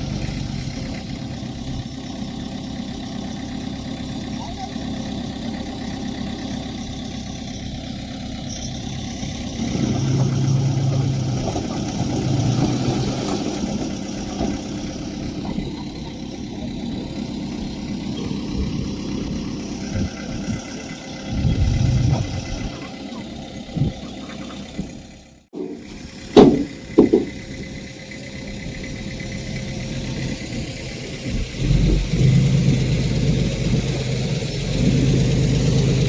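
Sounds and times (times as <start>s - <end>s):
diesel engine of earthmoving machine: 0.0s - 36.0s.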